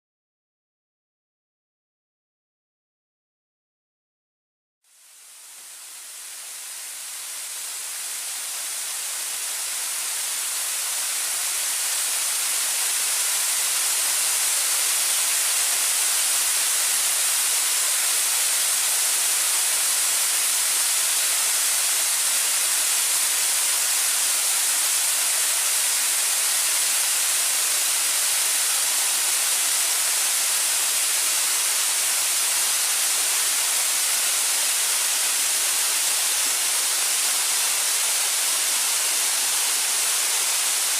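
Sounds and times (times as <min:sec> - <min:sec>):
waterfall rushing: 0:05.9 - 0:40.9.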